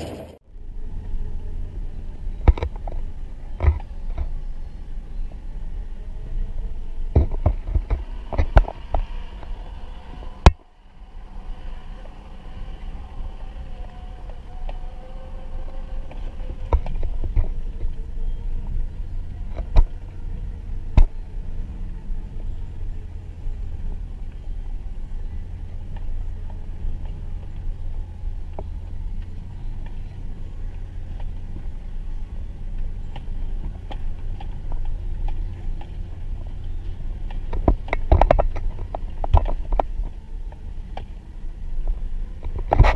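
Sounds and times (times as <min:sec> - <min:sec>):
truck engine rumbling: 0:00.0 - 0:42.9.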